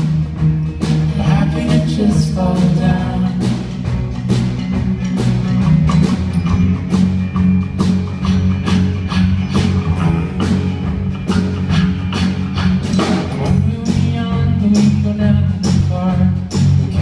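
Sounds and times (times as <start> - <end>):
drum kit beat: 0.0 - 17.0.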